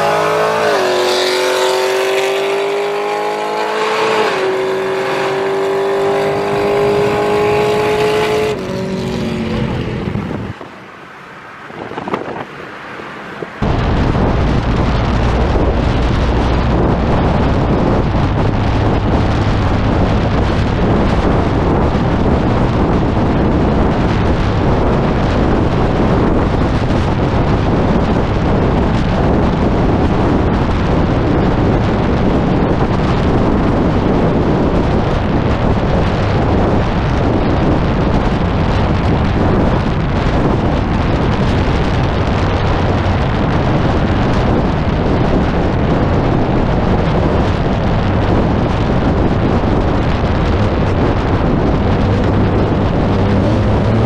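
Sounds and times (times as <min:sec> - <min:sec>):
wind buffeting microphone: 0:00.0 - 0:10.9, 0:11.6 - 0:54.0
car engine and tyres drone: 0:00.0 - 0:54.0.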